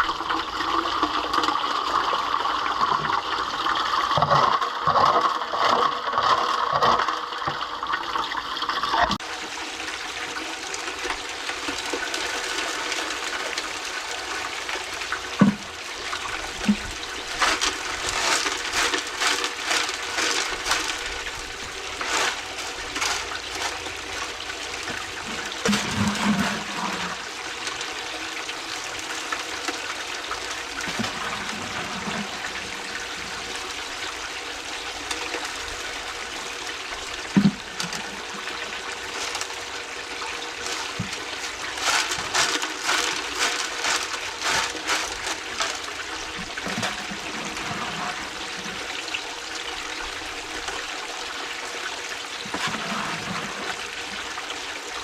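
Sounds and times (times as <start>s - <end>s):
running water splashing: 0.0s - 55.0s.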